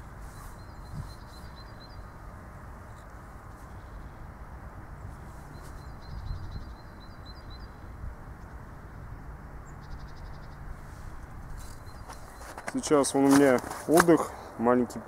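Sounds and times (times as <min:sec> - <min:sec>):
steady low rush of noise: 0:00.0 - 0:13.2, 0:13.8 - 0:15.0
small birds chirping: 0:00.2 - 0:04.2, 0:05.0 - 0:14.8.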